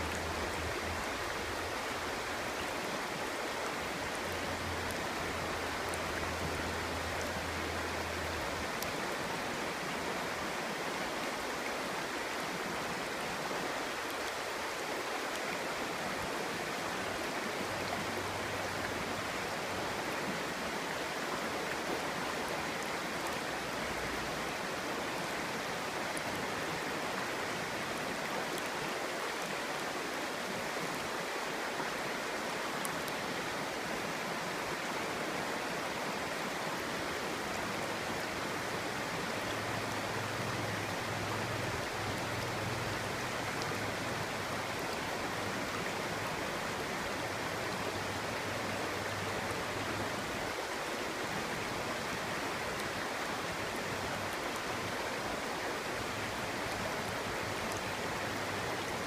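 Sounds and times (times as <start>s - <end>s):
stream burbling over stones: 0.0s - 59.0s.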